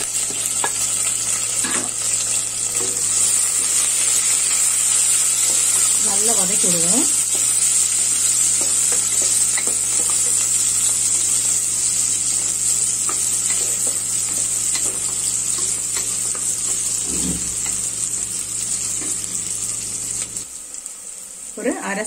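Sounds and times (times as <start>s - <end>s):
shallots sizzling in hot oil: 0.0s - 22.0s.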